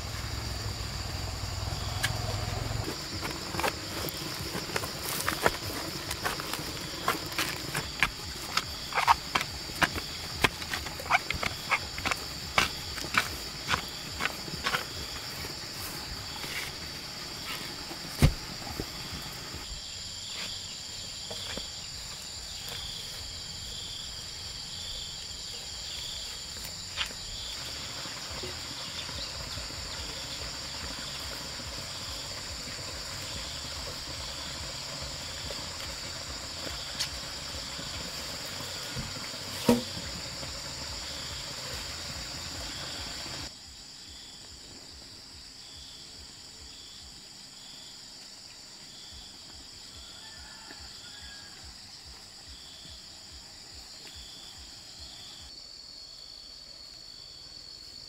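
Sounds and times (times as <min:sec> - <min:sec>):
forest insects droning: 0:00.0 - 0:58.0
pulsing insect call: 0:00.0 - 0:58.0.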